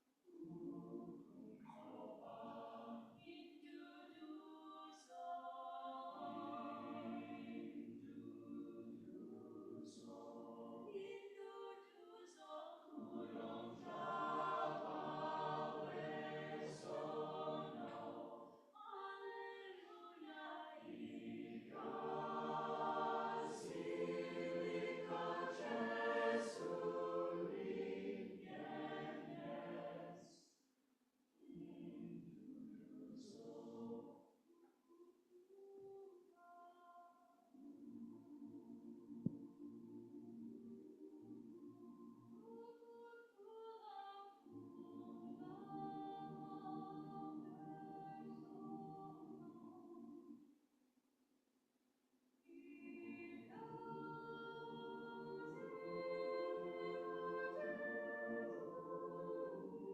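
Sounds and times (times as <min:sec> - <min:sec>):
choir singing a cappella: 0:00.3 - 0:30.4, 0:31.4 - 0:34.2, 0:37.5 - 0:50.4, 0:52.5 - 0:59.9.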